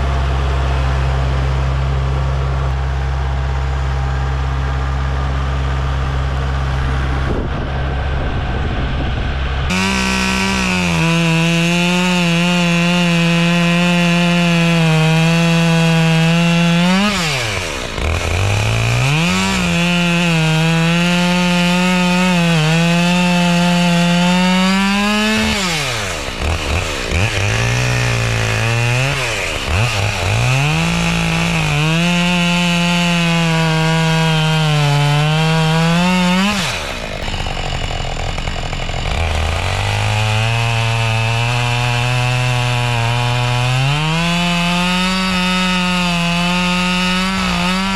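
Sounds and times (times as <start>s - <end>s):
chainsaw cutting logs: 0.0s - 8.4s, 9.6s - 47.9s.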